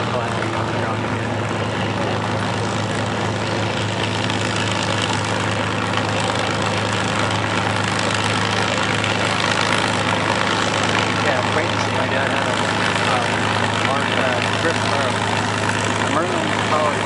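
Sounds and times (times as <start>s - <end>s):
aircraft engine running at low power: 0.0s - 17.0s.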